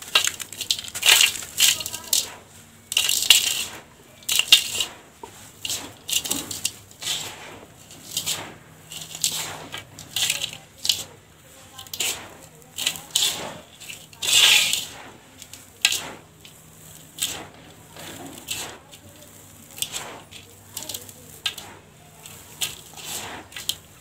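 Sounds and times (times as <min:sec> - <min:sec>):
sand poured into steel tub: 0:00.0 - 0:24.0.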